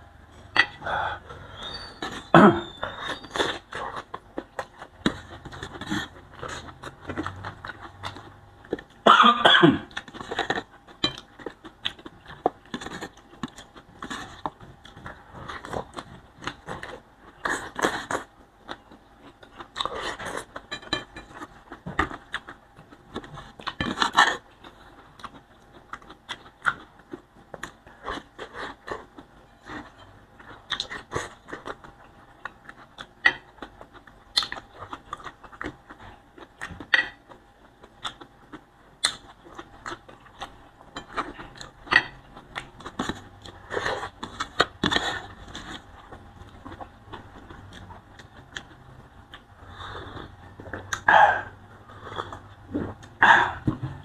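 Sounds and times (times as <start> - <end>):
chewing and crunching vegetables: 0.0 - 54.0.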